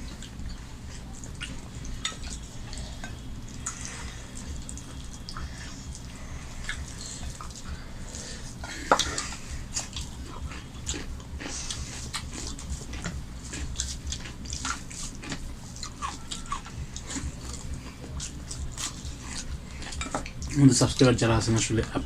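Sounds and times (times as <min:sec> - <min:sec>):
wet chewing and lip smacking: 0:00.0 - 0:21.0
steady low hum: 0:00.0 - 0:22.0.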